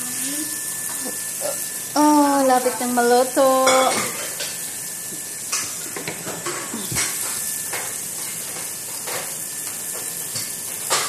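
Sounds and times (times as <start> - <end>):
beans sizzling in oil: 0.0 - 11.0.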